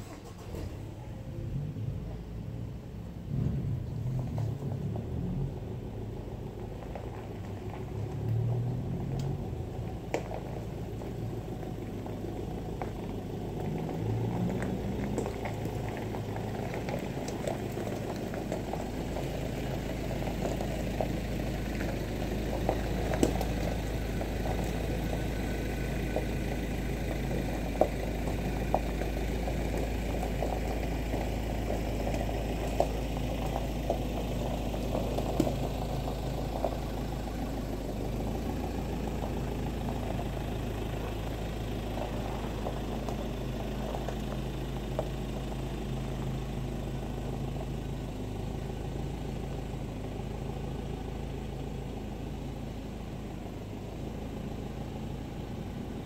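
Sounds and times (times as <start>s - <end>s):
vehicle engine idling: 0.0s - 56.0s
tyres crunching gravel: 3.5s - 56.0s.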